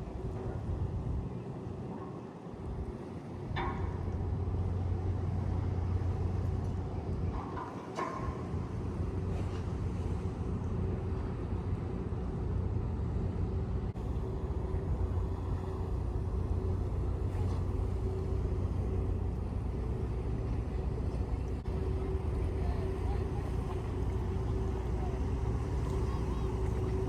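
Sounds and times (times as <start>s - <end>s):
faint constant hum: 0.0s - 27.0s
low engine rumble: 0.0s - 27.0s.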